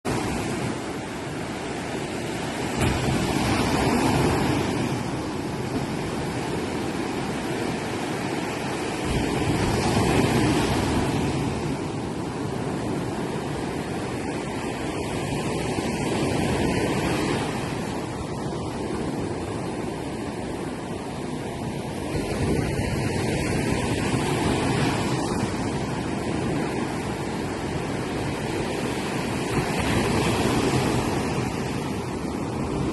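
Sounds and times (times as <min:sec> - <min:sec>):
sea waves breaking on beach: 0:00.0 - 0:32.9.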